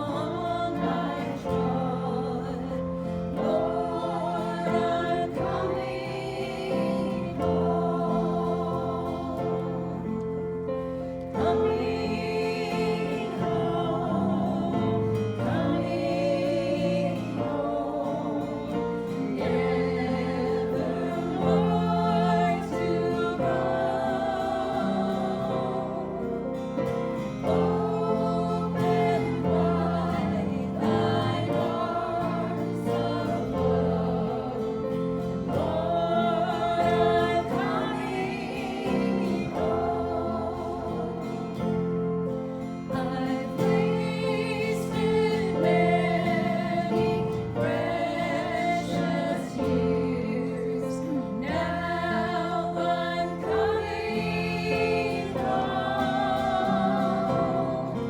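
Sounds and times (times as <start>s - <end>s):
gospel singing with instruments: 0.0s - 58.0s.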